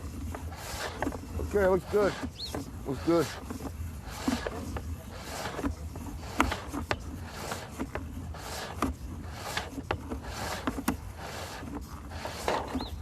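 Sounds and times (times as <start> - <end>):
camera cable scraping inside pipe: 0.0 - 13.0.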